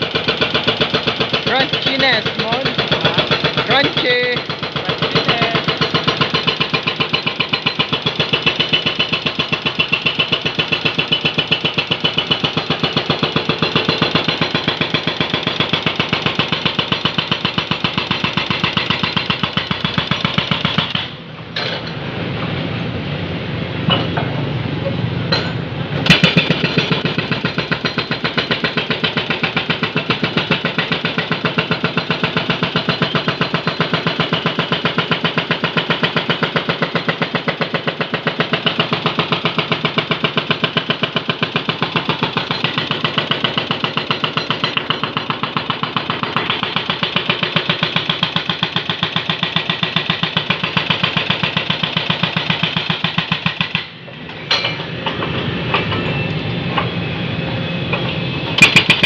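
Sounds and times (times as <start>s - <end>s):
hydraulic breaker hammering: 0.0s - 21.9s, 25.3s - 57.0s, 57.9s - 59.0s
excavator engine running: 0.0s - 59.0s.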